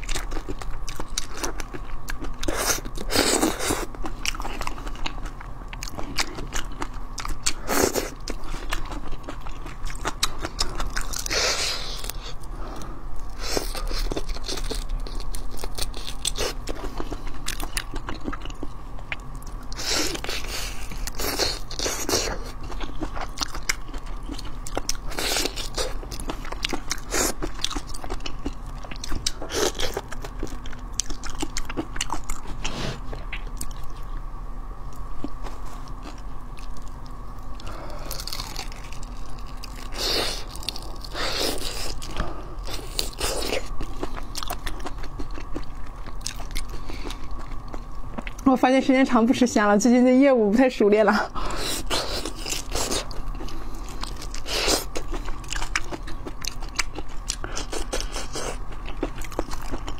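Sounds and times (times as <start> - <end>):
wet biting and chewing: 0.0 - 12.5, 13.6 - 34.0, 35.2 - 48.4, 51.4 - 59.9.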